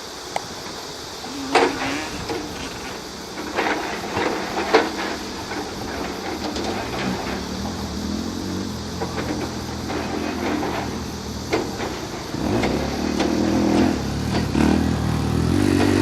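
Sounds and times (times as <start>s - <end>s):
dirt bike engines running: 0.0s - 16.0s
sharp engine bursts: 1.2s - 16.0s.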